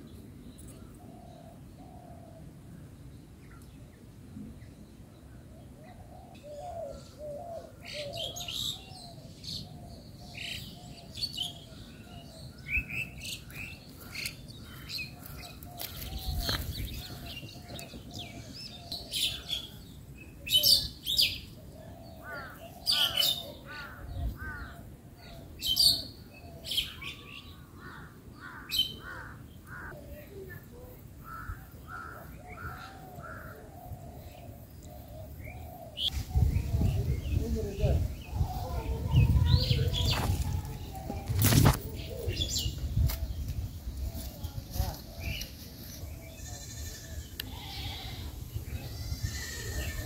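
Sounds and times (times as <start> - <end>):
birds chirping and calling: 0.1 - 50.0.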